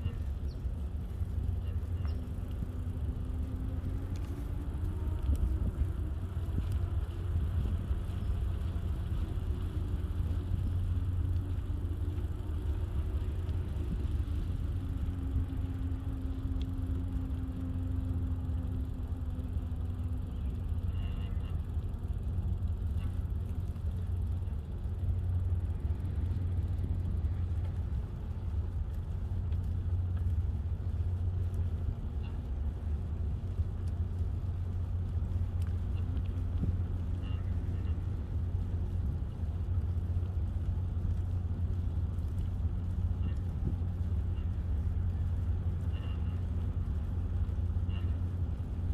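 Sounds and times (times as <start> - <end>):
bicycle tyres rolling on path: 0.0 - 48.9
faint wavering hum: 0.0 - 48.9
wind buffeting microphone: 0.0 - 48.9.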